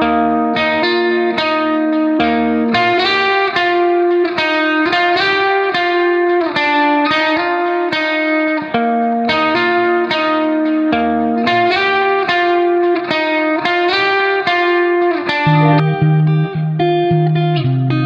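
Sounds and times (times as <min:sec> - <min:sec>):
slow guitar melody with effects: 0:00.0 - 0:18.0.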